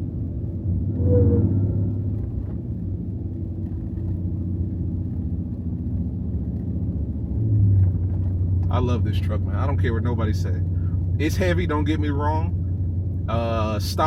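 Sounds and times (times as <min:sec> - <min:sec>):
truck engine drone in cab: 0:00.0 - 0:14.0.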